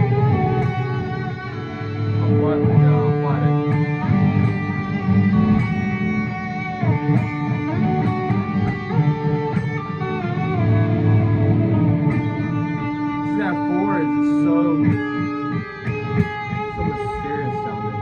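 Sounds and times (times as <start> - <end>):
guitar melody with slides: 0.0 - 18.0
sustained low guitar note: 0.0 - 18.0.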